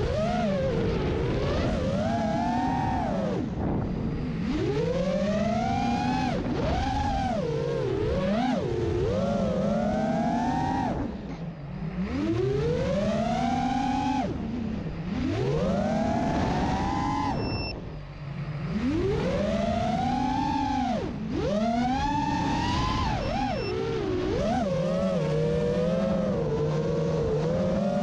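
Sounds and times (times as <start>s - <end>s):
quadcopter propellers whining: 0.0s - 28.0s.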